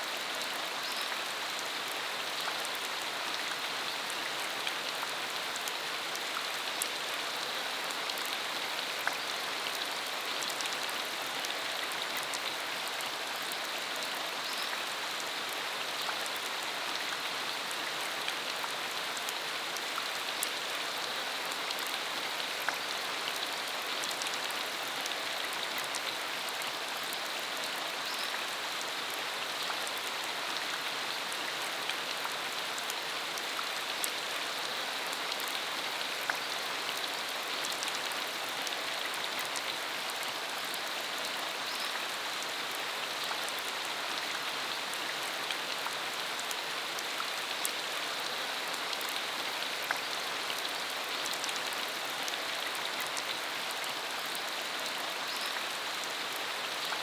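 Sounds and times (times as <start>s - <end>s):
rain on a dirt road: 0.0s - 57.0s.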